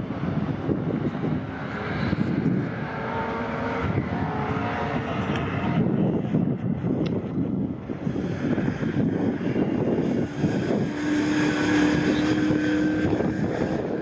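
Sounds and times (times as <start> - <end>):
racing cars passing at speed: 0.0 - 14.0.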